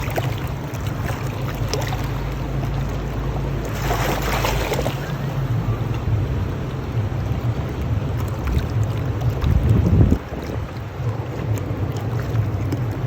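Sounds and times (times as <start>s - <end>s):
river water rushing: 0.0s - 13.0s
steady low rumble: 0.0s - 13.0s
water splashing: 0.0s - 13.0s
wind buffeting microphone: 0.0s - 13.0s.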